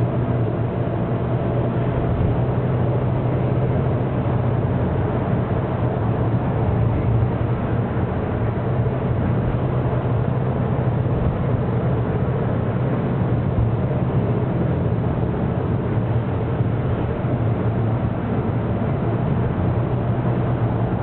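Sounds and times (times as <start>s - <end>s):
bus engine drone and tyre noise: 0.0s - 21.0s.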